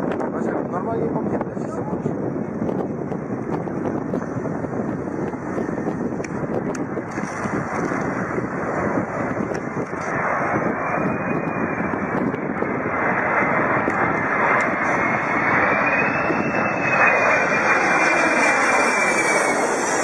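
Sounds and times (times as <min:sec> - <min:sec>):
airliner engines rushing and whining: 0:00.0 - 0:20.0.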